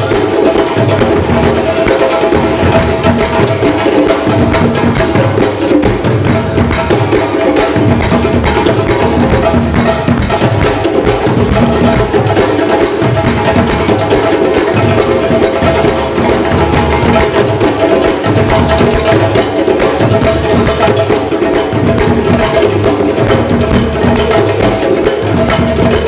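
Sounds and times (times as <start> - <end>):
drums playing busy rhythm: 0.0 - 26.0.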